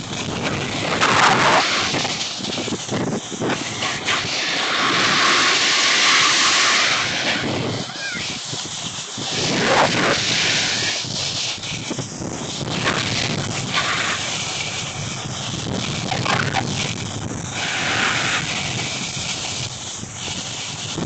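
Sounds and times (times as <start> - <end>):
snowboard scraping over snow: 0.0 - 21.0
wind buffeting microphone: 0.0 - 21.0.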